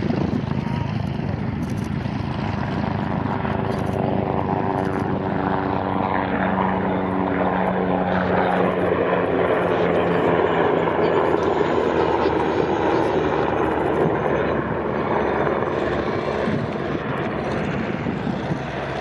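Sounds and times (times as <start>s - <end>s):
propeller aircraft drone: 0.0s - 19.0s.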